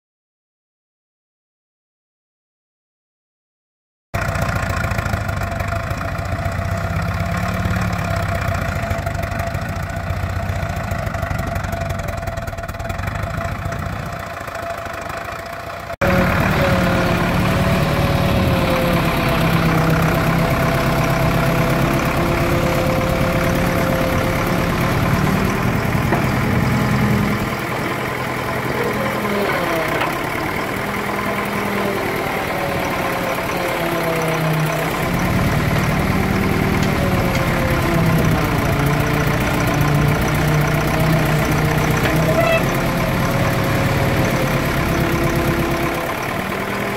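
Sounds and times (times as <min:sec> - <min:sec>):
diesel backhoe engine running: 0:04.2 - 0:46.9.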